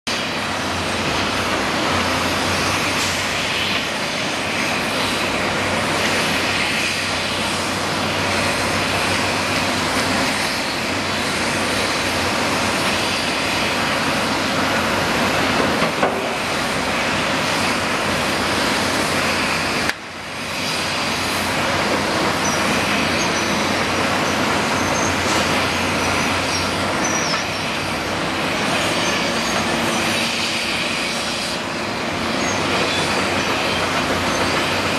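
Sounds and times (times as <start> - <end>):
city traffic noise: 0.1 - 34.9
excavator digging: 0.1 - 34.9.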